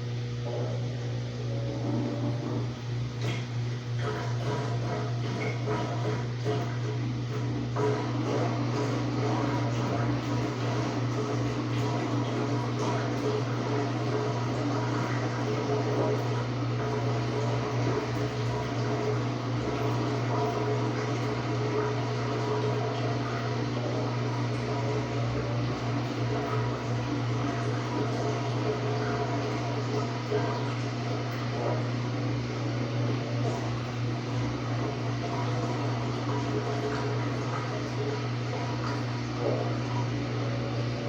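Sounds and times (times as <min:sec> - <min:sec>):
washing machine motor hum: 0:00.0 - 0:41.0.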